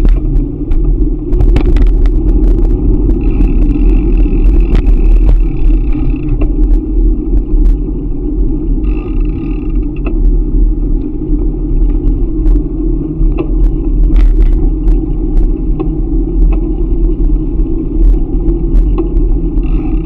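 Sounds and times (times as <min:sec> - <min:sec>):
bicycle clicks and rattles: 0:00.0 - 0:20.0
wind rumble on microphone: 0:00.0 - 0:20.0.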